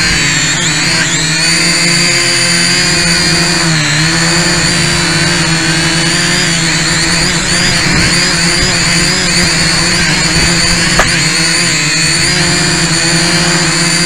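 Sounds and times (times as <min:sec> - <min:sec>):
drone propellers whining: 0:02.7 - 0:14.0.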